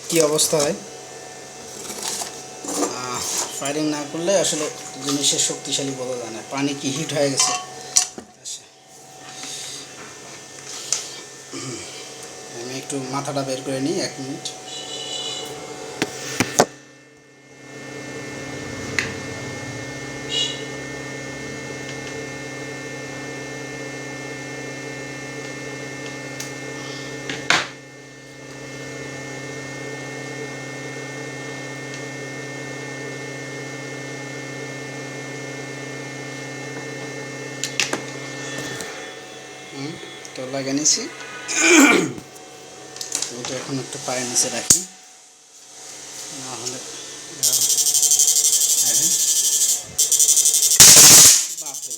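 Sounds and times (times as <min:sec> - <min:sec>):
electrical hum and whine: 0:00.0 - 0:51.9.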